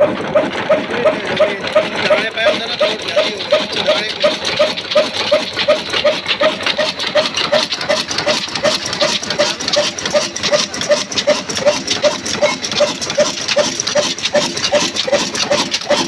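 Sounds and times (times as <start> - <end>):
diesel engine clattering: 0.0 - 16.0
regular engine tick: 0.0 - 16.0.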